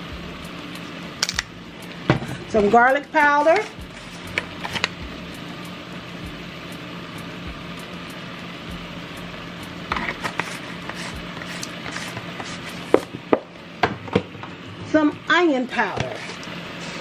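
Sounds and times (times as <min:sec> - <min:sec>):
meat sizzling in a pot: 0:00.1 - 0:17.0.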